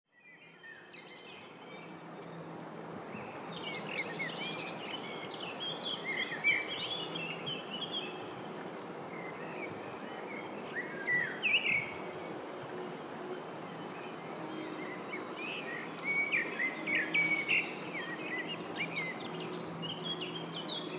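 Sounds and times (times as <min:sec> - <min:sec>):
songbirds chirping and trilling: 0:00.2 - 0:20.9.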